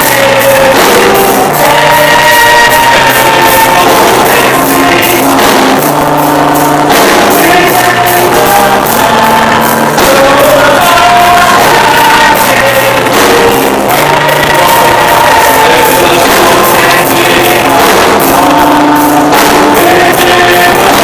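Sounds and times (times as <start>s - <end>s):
bass line: 0.0s - 21.0s
steady drum beat: 0.0s - 21.0s
voices singing: 0.0s - 21.0s.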